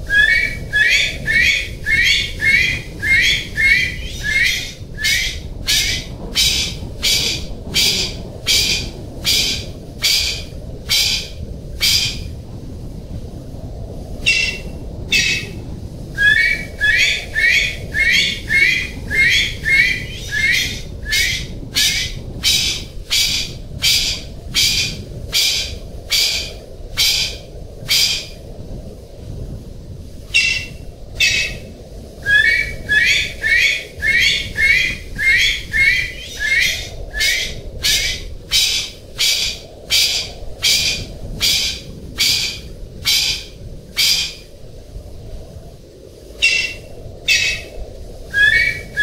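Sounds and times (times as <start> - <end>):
pheasant calling: 0.0 - 12.2, 14.2 - 15.6, 16.2 - 28.4, 30.3 - 31.6, 32.2 - 44.4, 46.4 - 47.7, 48.3 - 49.0
steady low rumble: 0.0 - 49.0.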